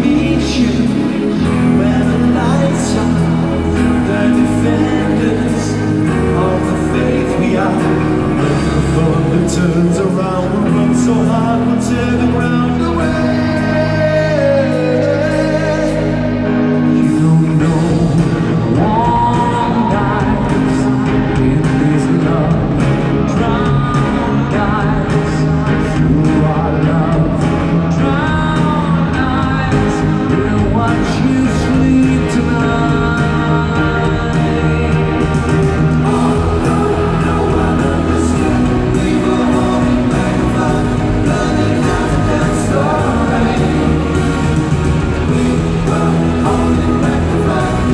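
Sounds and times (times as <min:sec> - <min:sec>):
live pop-rock band: 0:00.0 - 0:47.9
man singing ballad: 0:00.0 - 0:47.9.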